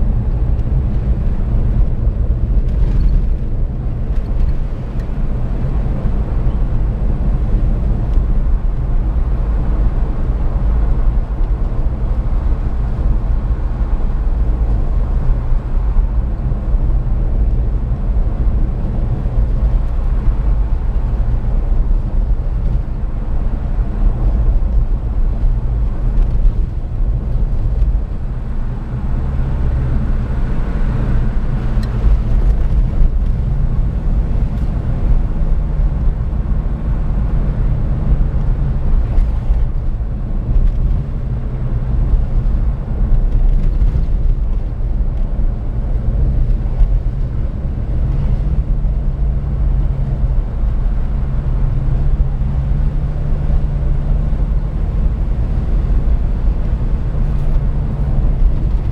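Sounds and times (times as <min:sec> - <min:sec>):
car engine and tyres rumbling: 0:00.0 - 0:58.9.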